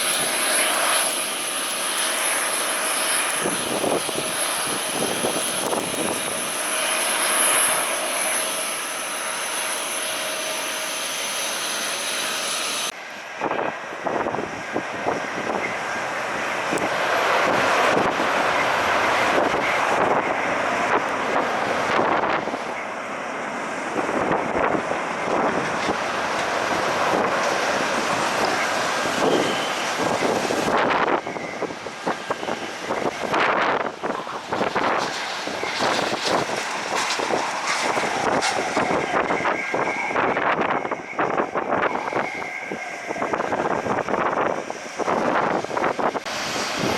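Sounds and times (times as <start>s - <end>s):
jet engines whining: 0.0s - 46.9s
wind gusts on microphone: 0.0s - 46.9s.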